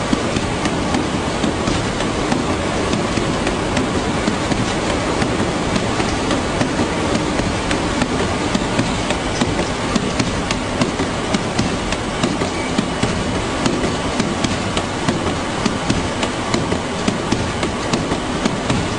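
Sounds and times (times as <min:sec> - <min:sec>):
conveyor clattering ticks: 0:00.0 - 0:18.9
conveyor machinery rumbling hiss: 0:00.0 - 0:18.9.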